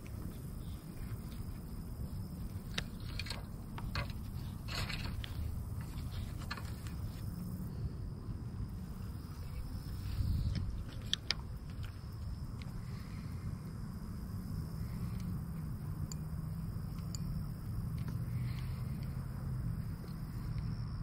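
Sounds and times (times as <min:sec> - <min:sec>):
fishing reel low rumble: 0:00.0 - 0:21.0.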